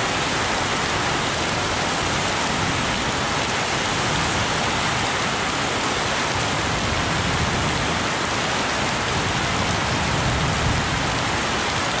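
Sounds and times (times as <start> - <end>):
rain splashing on muddy ground: 0.0 - 12.0.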